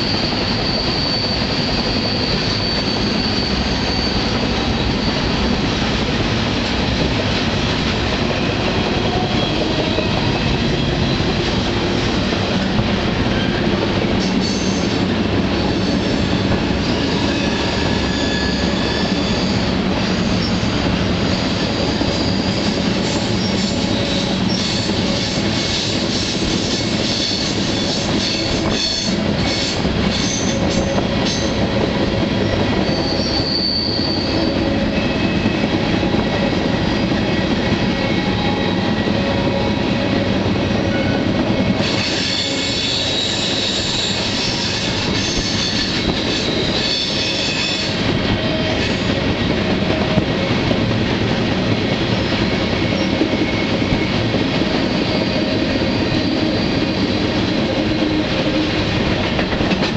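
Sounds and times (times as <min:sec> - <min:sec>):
train cars rumbling and rattling: 0:00.0 - 0:59.9
train wheels squealing on rails: 0:00.0 - 0:59.9.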